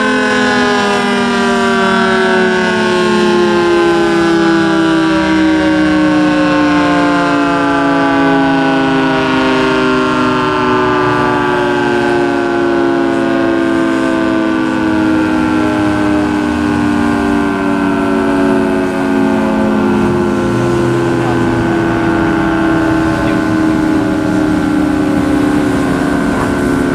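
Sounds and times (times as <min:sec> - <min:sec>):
warning siren chord: 0:00.0 - 0:26.9.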